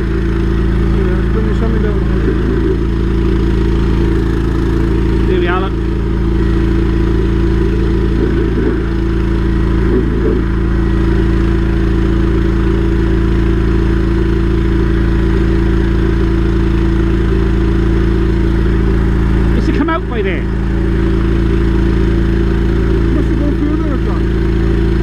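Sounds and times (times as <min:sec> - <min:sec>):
machine engine running steadily: 0:00.0 - 0:25.0.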